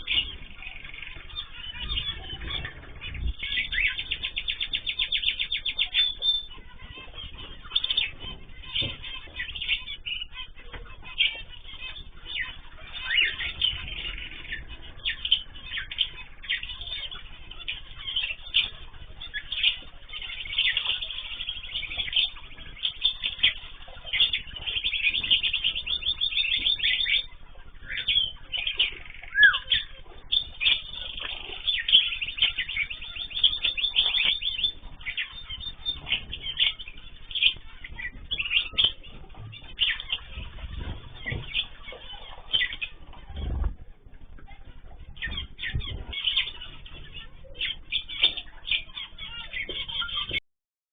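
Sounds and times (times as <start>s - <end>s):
cage birds chirping: 0.0s - 50.4s.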